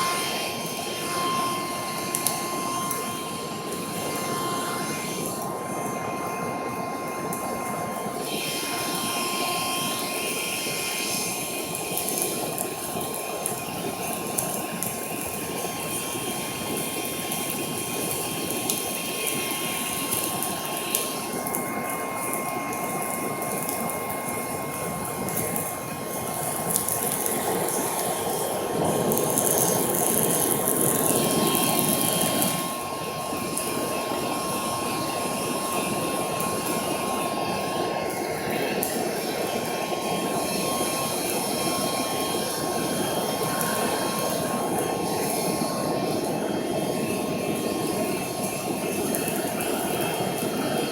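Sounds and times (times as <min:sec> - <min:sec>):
electric air pump whirring: 0:00.0 - 0:50.9.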